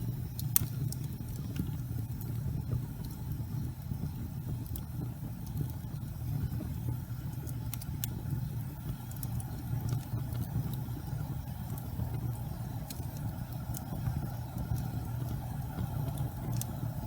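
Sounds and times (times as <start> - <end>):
faint crackles and ticks: 0.0 - 17.0
gas fireplace flames rumbling: 0.0 - 17.0.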